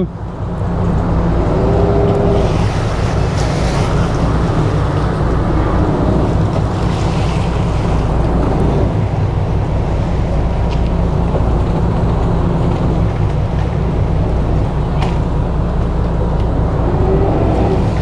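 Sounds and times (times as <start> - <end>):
boat engines running: 0.0 - 18.0
water churning: 0.0 - 18.0.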